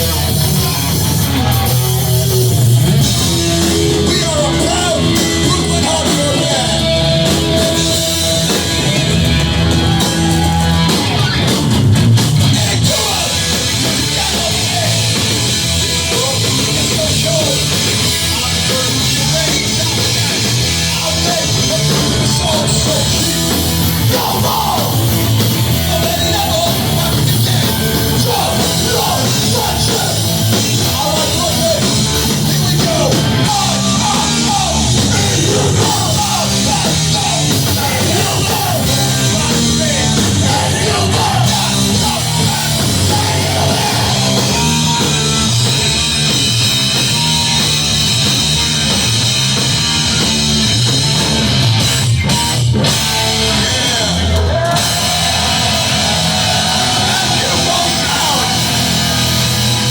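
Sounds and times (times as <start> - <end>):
hardcore band playing live: 0.0 - 59.9
yelled vocals: 0.0 - 59.9.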